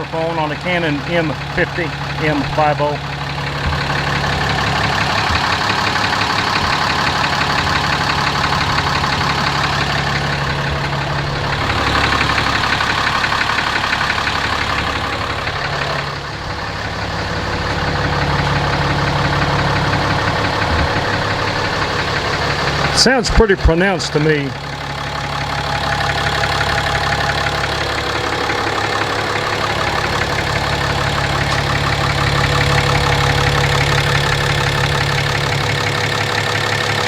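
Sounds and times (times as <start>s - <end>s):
diesel engine idling with knock: 0.0s - 37.0s.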